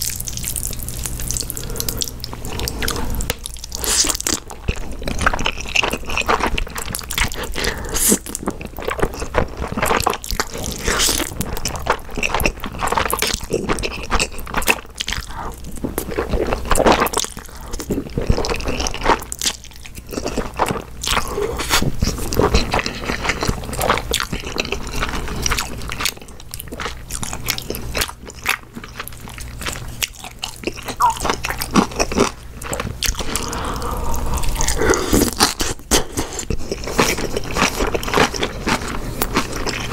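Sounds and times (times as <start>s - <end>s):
slurping and chewing noodles: 0.0s - 39.9s.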